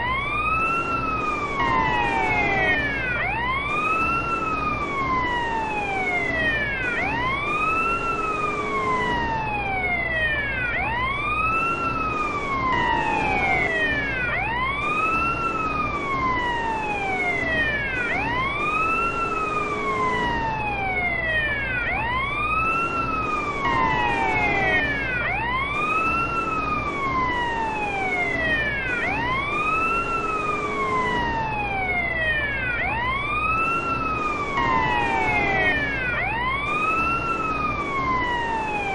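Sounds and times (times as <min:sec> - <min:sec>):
police car siren wailing: 0:00.0 - 0:38.9.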